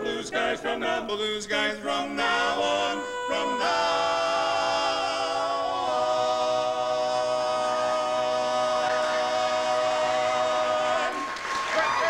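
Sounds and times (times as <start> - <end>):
male quartet singing a cappella: 0.0 - 11.4.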